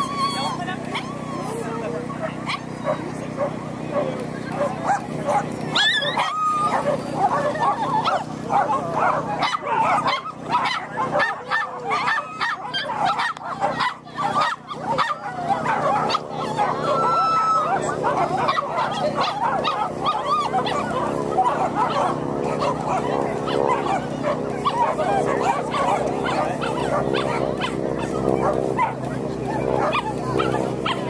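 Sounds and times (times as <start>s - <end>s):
dogs yipping and barking: 0.0s - 31.0s
steady hum: 0.0s - 31.0s.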